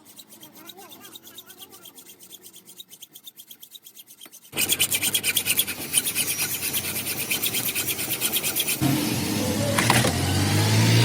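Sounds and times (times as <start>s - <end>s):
metal being rasped: 0.0s - 9.7s.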